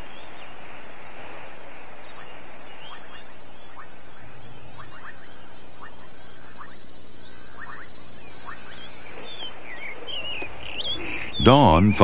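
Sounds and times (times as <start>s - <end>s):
frogs chirping: 0.0s - 12.0s
insects trilling: 0.0s - 12.0s
wavering bird calls: 1.4s - 12.0s.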